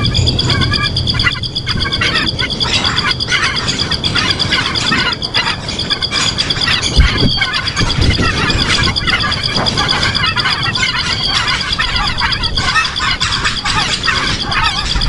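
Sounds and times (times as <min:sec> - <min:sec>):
fast-pulsing high trill: 0:00.0 - 0:15.0
small birds chirping: 0:00.0 - 0:15.0.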